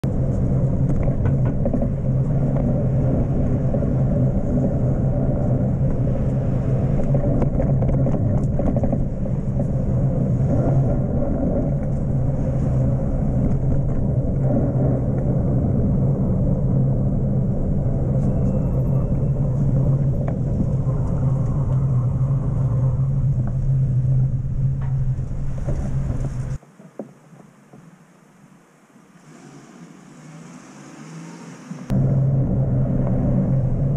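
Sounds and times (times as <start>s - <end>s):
wind and road noise while cycling: 0.0s - 26.6s, 30.2s - 33.9s.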